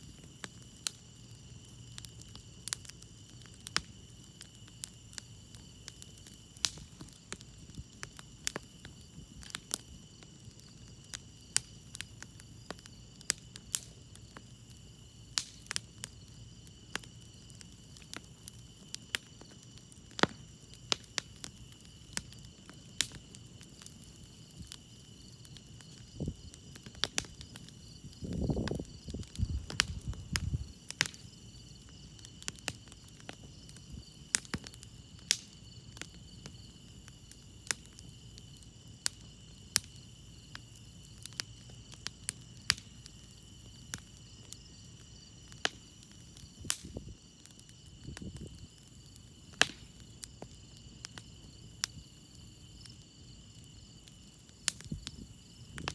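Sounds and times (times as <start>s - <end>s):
campfire crackling: 0.0s - 55.9s
crickets chirping: 0.0s - 55.9s.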